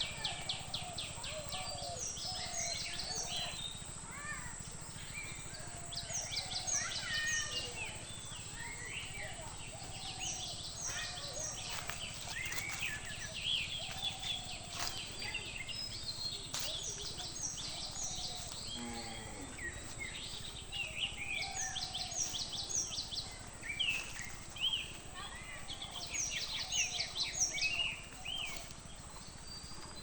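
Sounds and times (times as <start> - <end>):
low background hum: 0.0 - 30.0
small birds chirping: 0.0 - 30.0.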